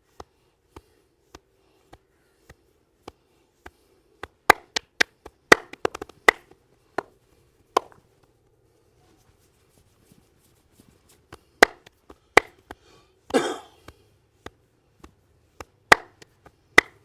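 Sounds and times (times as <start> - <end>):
hands slapping in massage: 0.1 - 8.4, 10.8 - 17.0.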